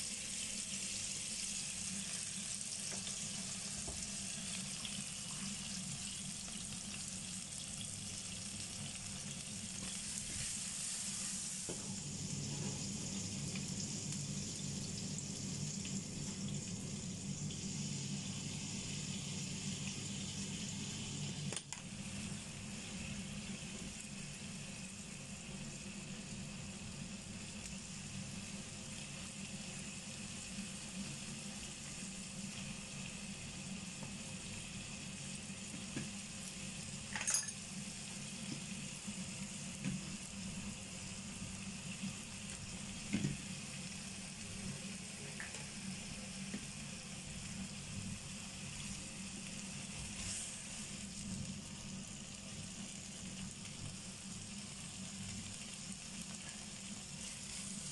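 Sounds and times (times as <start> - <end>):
chicken wings sizzling in pan: 0.0 - 57.9.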